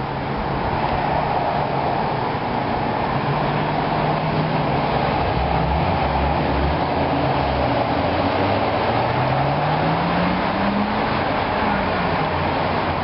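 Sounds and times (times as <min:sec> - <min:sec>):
engine running: 0:00.0 - 0:13.0
traffic hum: 0:00.0 - 0:13.0.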